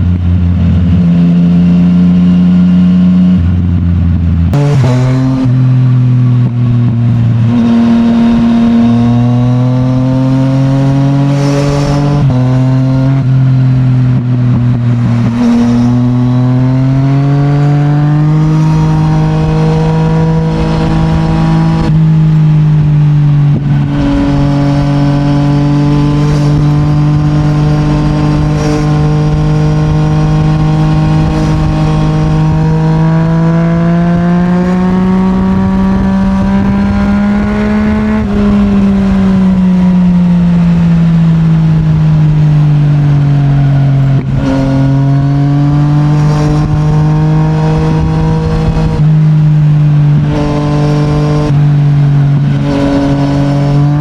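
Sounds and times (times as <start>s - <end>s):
motorcycle engine on the road: 0.0s - 54.0s.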